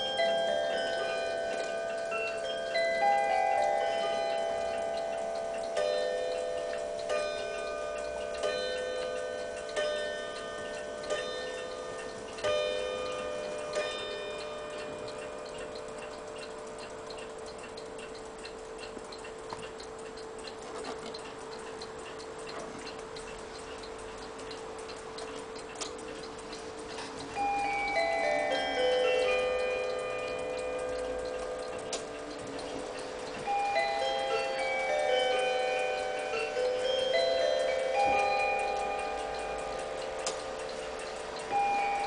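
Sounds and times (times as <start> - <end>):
clock chime rods striking: 0.0 - 42.0
clock ticking: 0.0 - 42.0.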